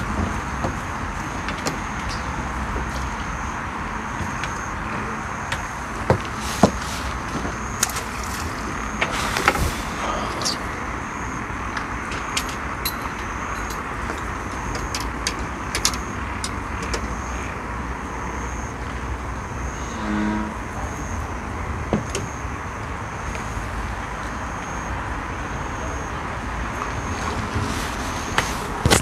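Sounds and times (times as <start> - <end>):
constant hiss-like noise: 0.0 - 29.0.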